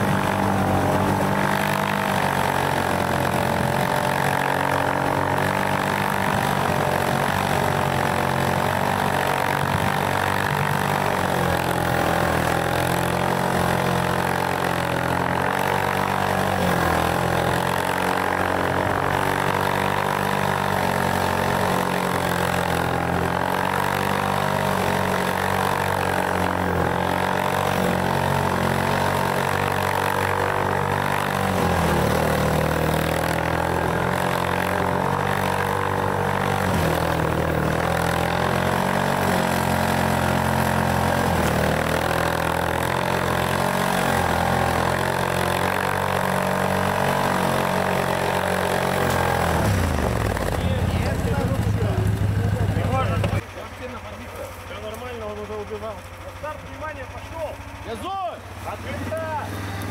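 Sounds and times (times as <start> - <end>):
vehicle engine revving under load: 0.0 - 59.9.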